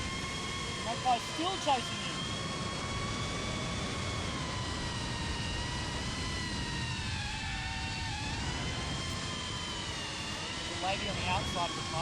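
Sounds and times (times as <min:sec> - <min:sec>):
drone motors whining: 0:00.0 - 0:12.0
wind rumble on microphone: 0:00.0 - 0:12.0.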